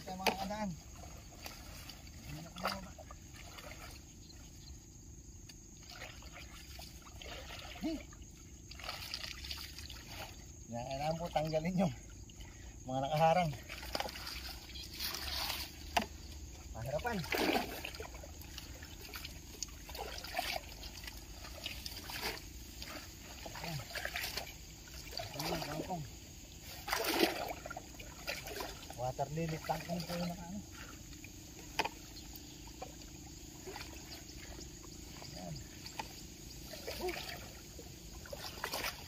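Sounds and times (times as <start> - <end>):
water trickling around boat: 0.0 - 39.0.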